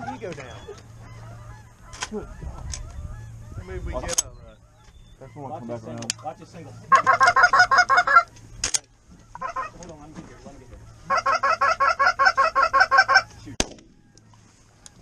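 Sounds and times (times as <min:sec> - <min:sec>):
goose honking: 0:00.0 - 0:15.0.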